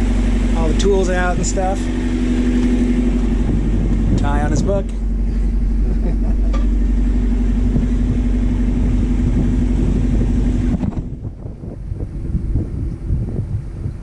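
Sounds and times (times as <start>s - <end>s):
diesel engine drone: 0.0s - 14.0s
wind on microphone: 0.0s - 14.0s.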